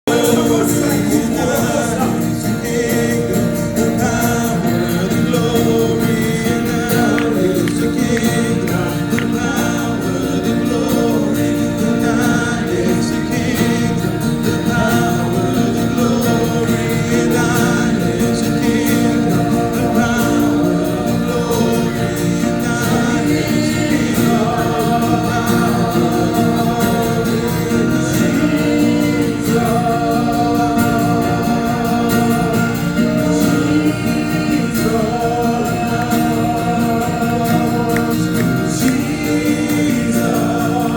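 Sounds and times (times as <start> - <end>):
gospel choir singing with instruments: 0.0 - 40.9.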